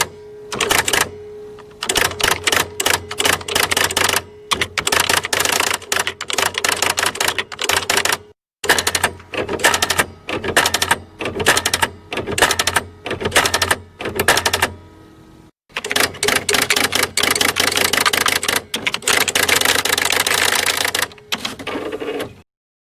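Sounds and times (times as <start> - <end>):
electric typewriter key strikes: 0.0 - 14.8, 15.7 - 21.8.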